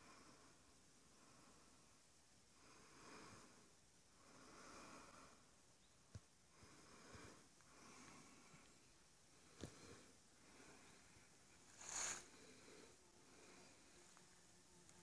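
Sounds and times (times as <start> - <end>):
faint slow breathing: 0.0 - 14.6.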